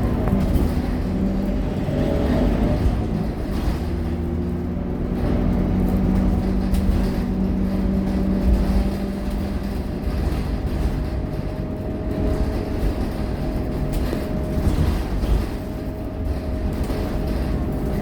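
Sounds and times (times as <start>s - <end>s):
diesel bus engine rumble: 0.0s - 18.0s
rising engine whine: 0.0s - 18.0s.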